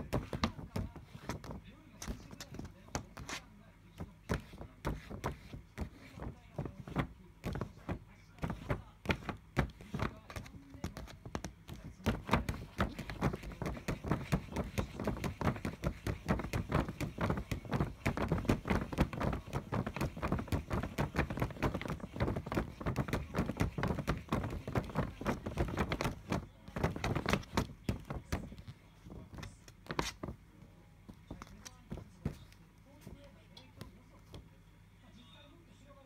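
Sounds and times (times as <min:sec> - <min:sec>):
kitten paws tapping plastic film: 0:00.0 - 0:34.5.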